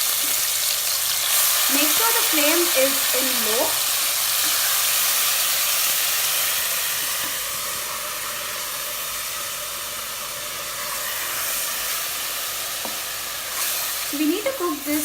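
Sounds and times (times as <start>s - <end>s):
onion paste sizzling in oil: 0.0s - 15.0s.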